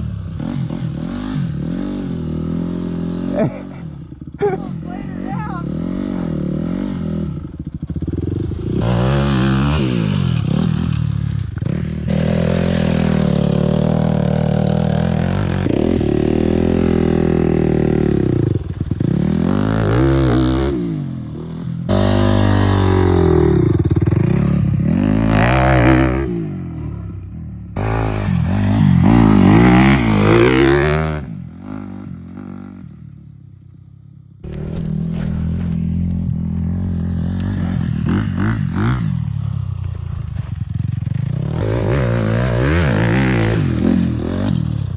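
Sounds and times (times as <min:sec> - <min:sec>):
dirt bike engine revving: 0:00.0 - 0:33.2, 0:34.4 - 0:44.9.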